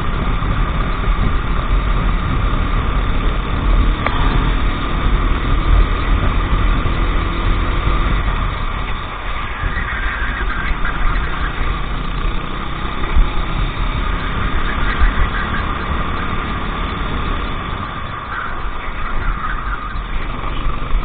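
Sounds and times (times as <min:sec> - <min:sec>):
racing kart engine running: 0:00.0 - 0:21.0.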